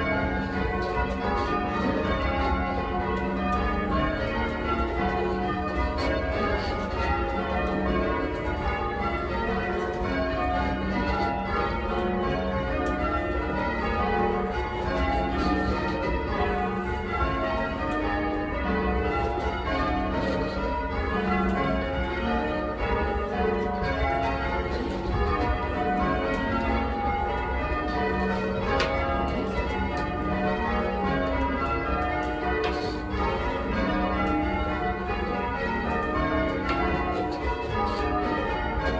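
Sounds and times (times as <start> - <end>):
church bells change ringing: 0.0 - 38.9.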